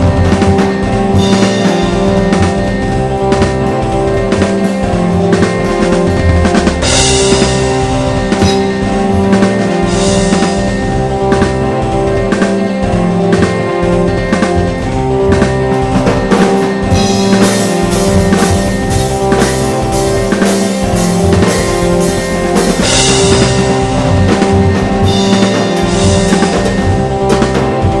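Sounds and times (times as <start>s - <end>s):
drum kit beat: 0.0s - 28.0s
instrumental rock music: 0.0s - 28.0s.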